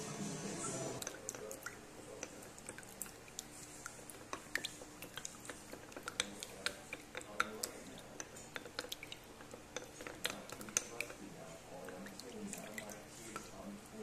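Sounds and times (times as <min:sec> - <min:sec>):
wet squelching of stirred grounds: 0:00.8 - 0:14.0.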